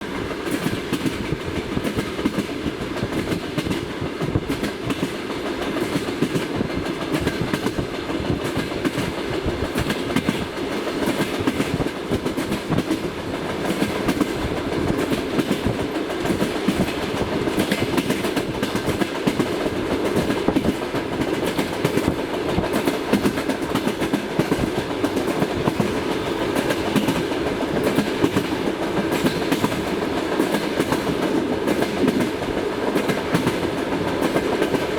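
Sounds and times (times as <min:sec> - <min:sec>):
train wheels clattering on rails: 0:00.0 - 0:34.9.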